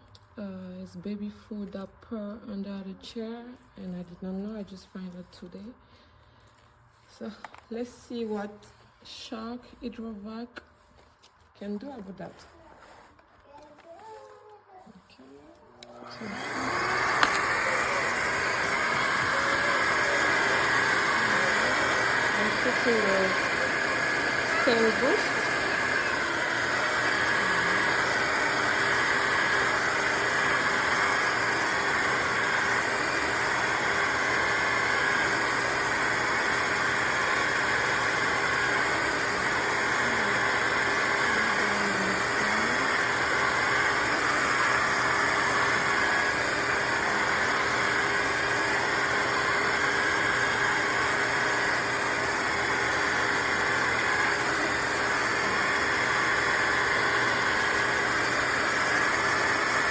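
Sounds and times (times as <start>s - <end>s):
wet-dry vacuum mop running: 6.4s - 59.9s.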